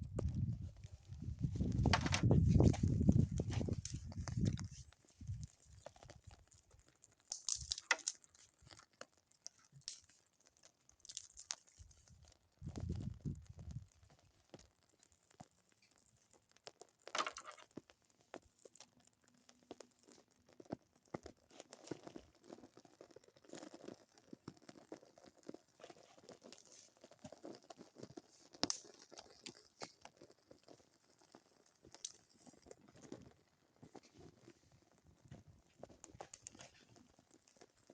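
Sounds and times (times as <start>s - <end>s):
wood fire crackling: 0.0s - 37.9s
sharp snaps of burning wood: 0.1s - 34.2s, 35.2s - 37.9s.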